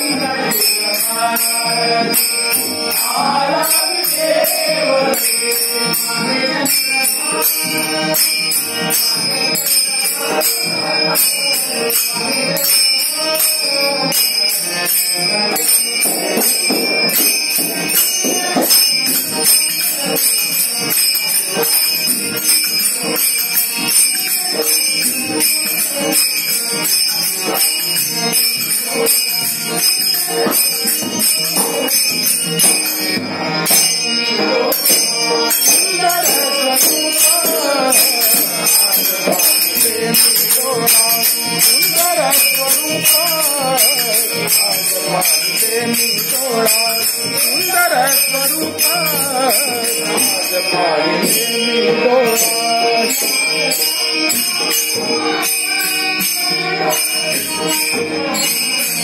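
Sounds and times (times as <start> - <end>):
harmonium chords: 0.0 - 59.0
small hand cymbals: 0.0 - 59.0
voices singing: 0.0 - 59.0.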